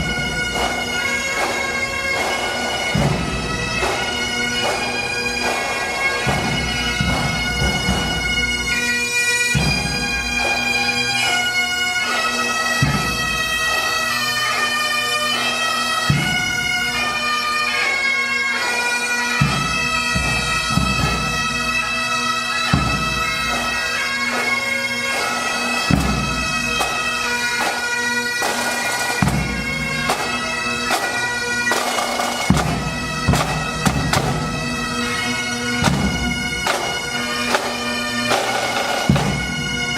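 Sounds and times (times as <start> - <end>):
bagpipe melody over drones: 0.0 - 39.9.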